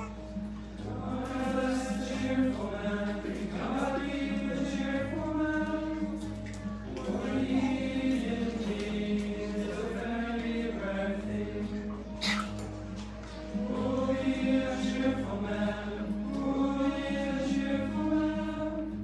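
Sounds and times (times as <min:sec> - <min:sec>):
strummed acoustic guitar: 0:00.0 - 0:19.0
male choir singing: 0:00.8 - 0:06.4, 0:07.0 - 0:12.2, 0:13.5 - 0:19.0.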